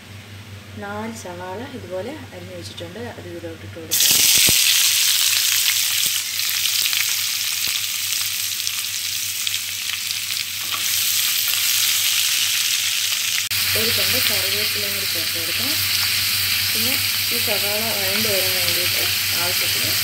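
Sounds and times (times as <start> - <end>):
onions sizzling in hot oil: 3.9 - 20.0.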